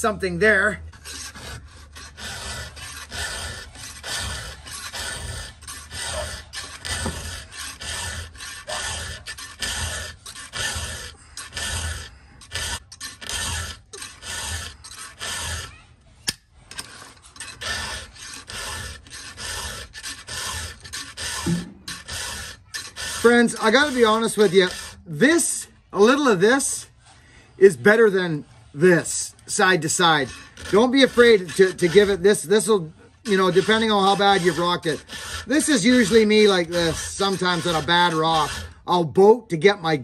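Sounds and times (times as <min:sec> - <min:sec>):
file rasping on chainsaw chain: 0:00.0 - 0:40.0.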